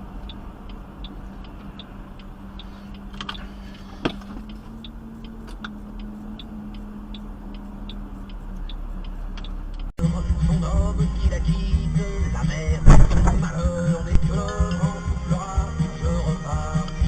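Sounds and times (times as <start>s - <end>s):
low car hum: 0.0s - 17.0s
turn signal ticking: 0.0s - 17.0s.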